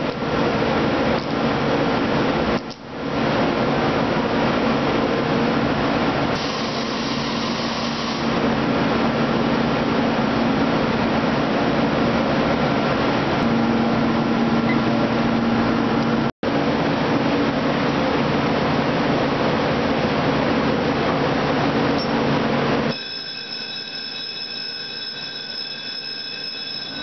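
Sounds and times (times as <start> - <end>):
factory machinery and ventilation: 0.0 - 27.0.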